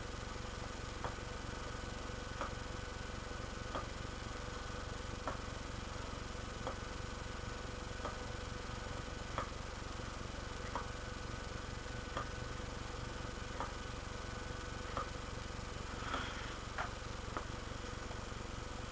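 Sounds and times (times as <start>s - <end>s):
low electrical hum: 0.0s - 18.9s
thin high whine: 0.0s - 18.9s.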